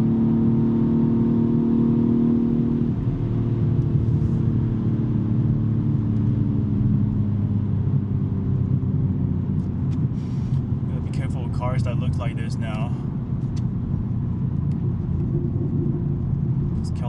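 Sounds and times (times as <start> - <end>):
car exhaust drone: 0.0 - 17.0.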